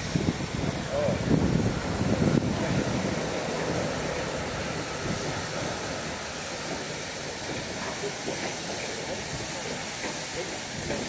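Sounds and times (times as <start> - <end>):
steam train hissing: 0.0 - 11.0.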